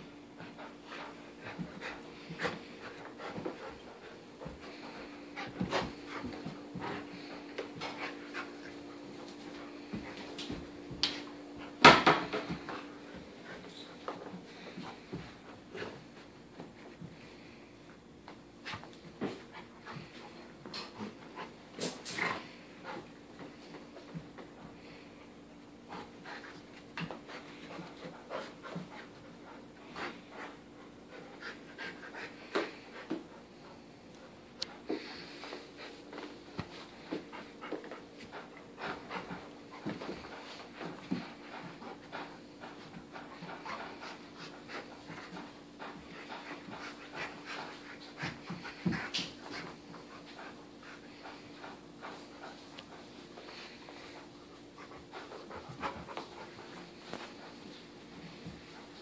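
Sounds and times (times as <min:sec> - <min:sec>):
dog panting: 0:00.2 - 0:17.5, 0:18.6 - 0:59.0.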